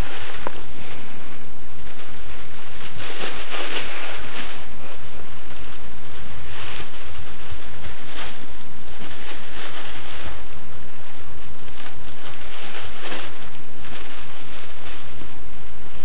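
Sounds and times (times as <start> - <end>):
plastic bag crinkling: 0.0 - 16.0
steady loud hiss: 0.0 - 16.0.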